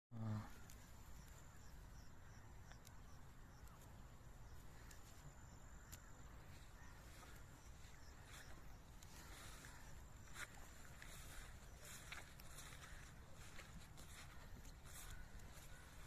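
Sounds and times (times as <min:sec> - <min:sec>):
high insect tone: 0:00.3 - 0:13.6.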